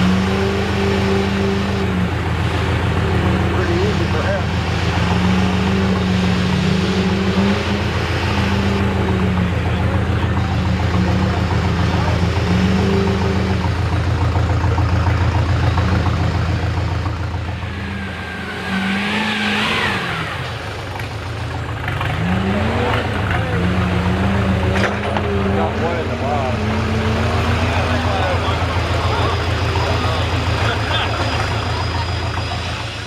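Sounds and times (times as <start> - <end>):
truck diesel engine revving: 0.0 - 33.0.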